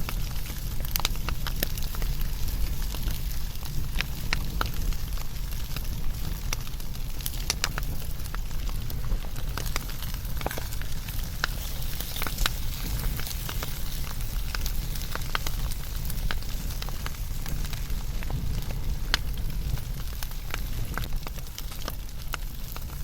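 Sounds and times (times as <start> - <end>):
low rumble and hiss: 0.0 - 23.0
wood fire crackling and popping: 0.0 - 23.0.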